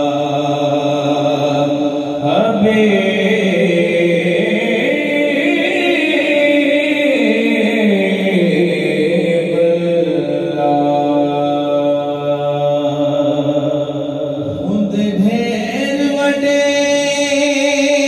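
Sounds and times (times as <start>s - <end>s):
man singing into microphone: 0.0s - 18.0s.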